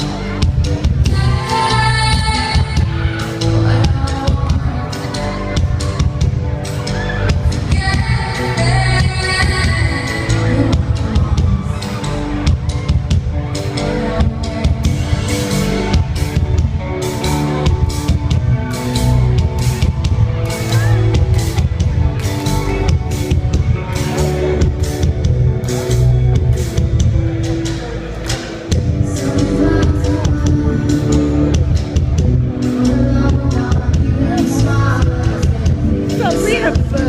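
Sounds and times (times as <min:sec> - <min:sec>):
rock band playing live: 0:00.0 - 0:37.0
drum kit beating: 0:00.1 - 0:37.0.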